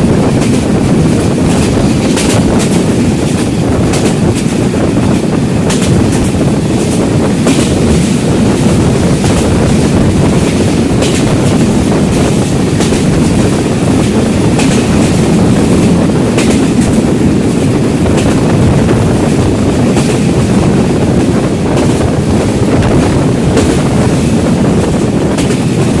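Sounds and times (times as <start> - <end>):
train rumbling: 0.0 - 26.0
wheels clacking over rails: 0.0 - 26.0
wind buffeting microphone: 0.0 - 26.0.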